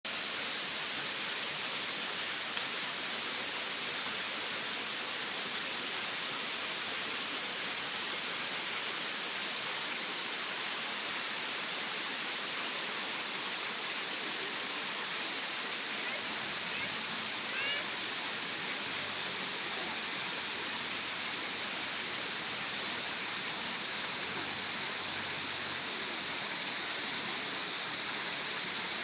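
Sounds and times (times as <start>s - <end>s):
waterfall rushing: 0.1s - 29.0s.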